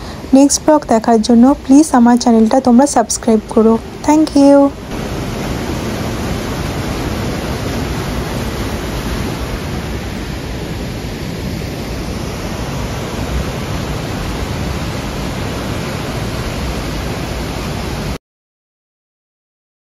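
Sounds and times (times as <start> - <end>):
water rushing over waterfall: 0.0 - 18.2.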